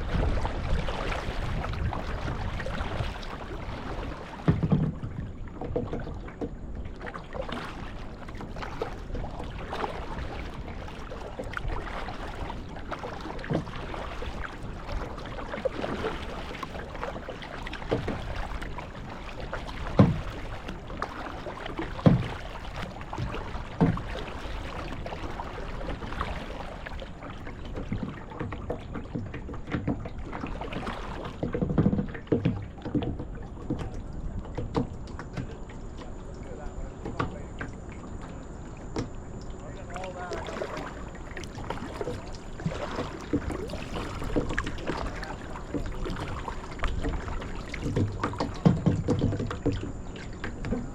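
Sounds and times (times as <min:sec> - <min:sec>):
paddle strokes splashing: 0:00.0 - 0:50.9
steady water wash: 0:00.0 - 0:50.9.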